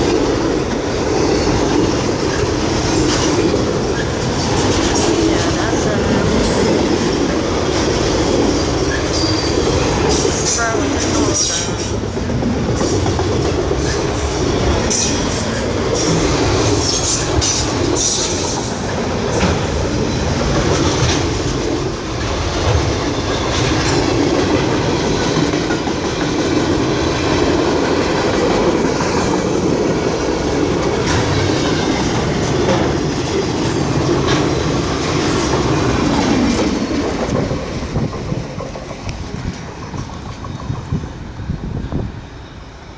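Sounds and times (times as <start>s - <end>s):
clacking over rail joints: 0.0s - 41.2s
train wheels rumbling on rail: 0.0s - 42.9s.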